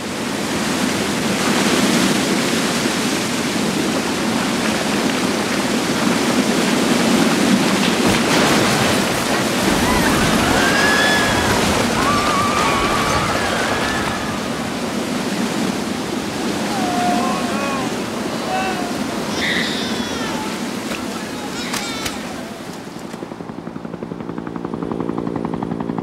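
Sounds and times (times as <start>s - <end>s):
mudflow rushing roar: 0.0s - 26.0s.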